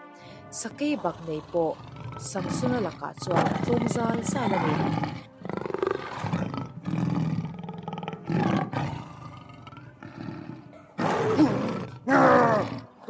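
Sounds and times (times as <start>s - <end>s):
lion roaring: 0.8s - 13.0s.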